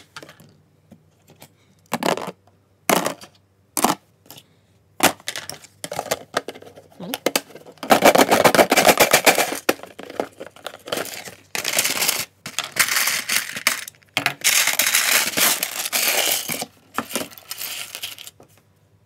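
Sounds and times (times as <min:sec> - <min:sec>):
plastic toy parts clattering in box: 0:01.3 - 0:04.0, 0:05.0 - 0:18.4.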